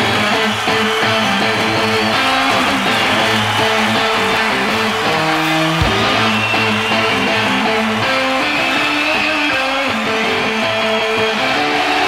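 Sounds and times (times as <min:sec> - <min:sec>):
strummed electric guitar music: 0:00.0 - 0:12.0.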